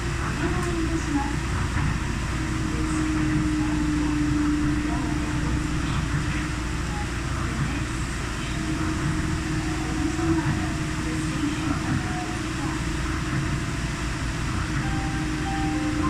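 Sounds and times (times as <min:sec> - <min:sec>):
train running gear rumble: 0:00.0 - 0:16.0.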